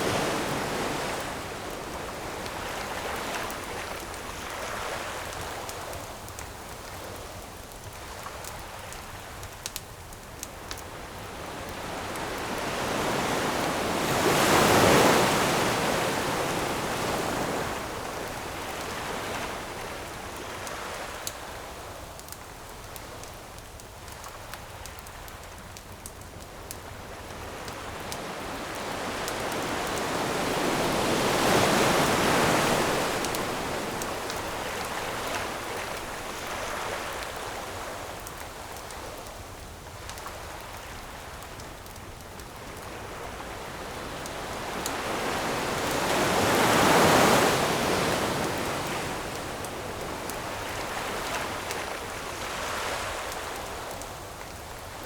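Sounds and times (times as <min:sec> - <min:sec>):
ocean waves breaking on shore: 0:00.0 - 0:09.3, 0:10.6 - 0:21.8, 0:26.8 - 0:39.0, 0:42.4 - 0:55.0
campfire crackling: 0:00.0 - 0:55.0.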